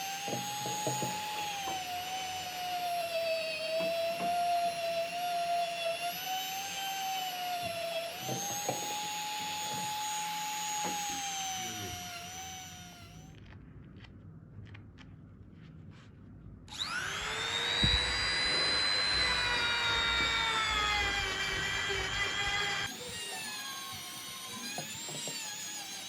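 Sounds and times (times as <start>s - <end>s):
power tool motor whining: 0.0s - 13.4s, 16.7s - 26.0s.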